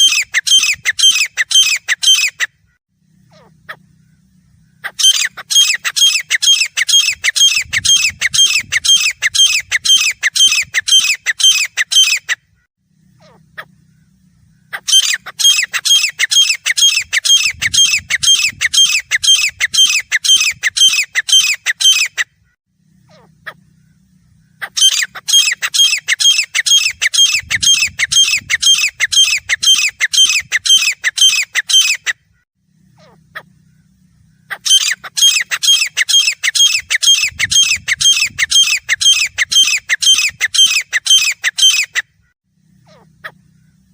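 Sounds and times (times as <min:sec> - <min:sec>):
francolin calling: 0:00.0 - 0:22.2, 0:22.8 - 0:32.1, 0:32.7 - 0:43.9.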